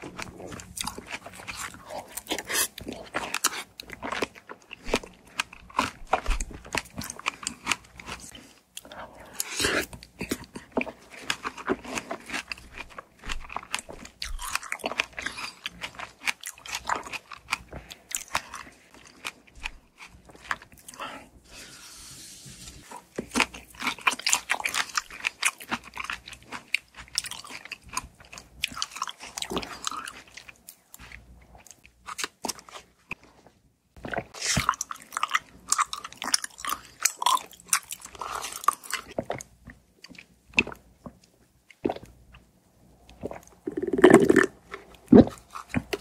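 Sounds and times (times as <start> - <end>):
biting and chewing: 0.0 - 21.1, 22.8 - 42.5, 43.1 - 46.0.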